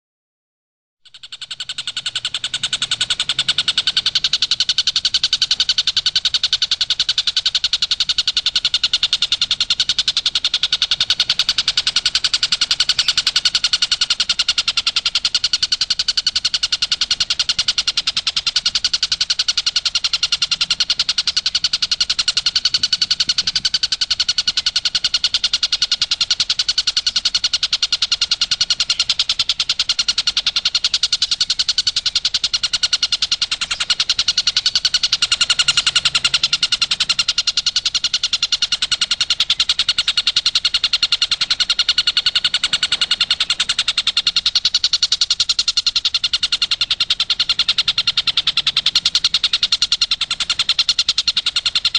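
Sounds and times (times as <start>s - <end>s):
kingfisher rapid-fire call: 1.1s - 51.9s.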